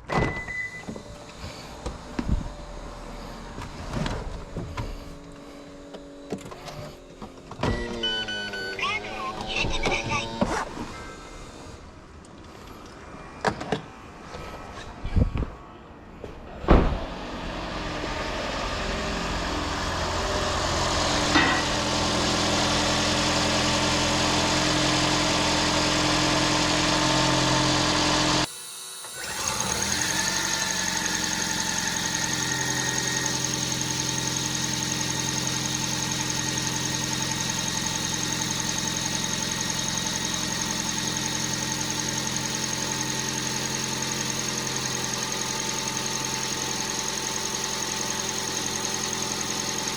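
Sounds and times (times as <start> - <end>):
car engine starting and running: 0.0 - 12.4, 16.4 - 49.9.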